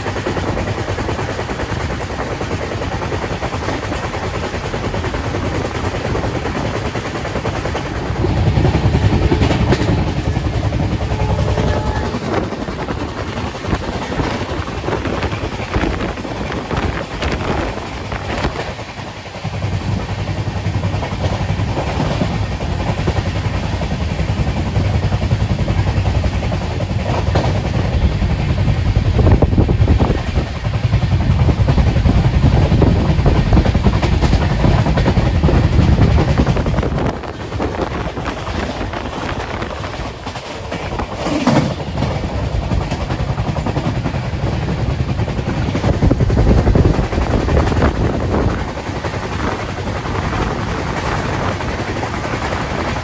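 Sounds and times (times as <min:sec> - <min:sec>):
train wheels clattering on track: 0:00.0 - 0:53.0.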